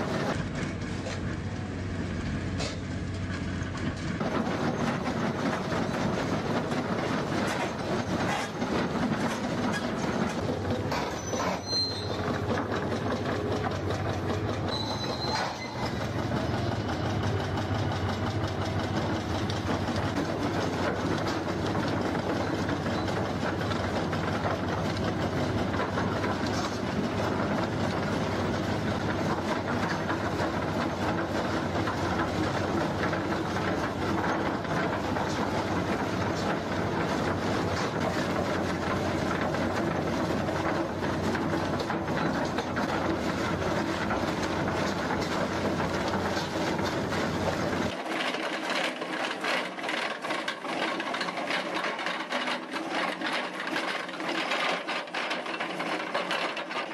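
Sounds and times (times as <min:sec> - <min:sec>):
rotary drum cutter grinding rock: 0:02.6 - 0:56.9.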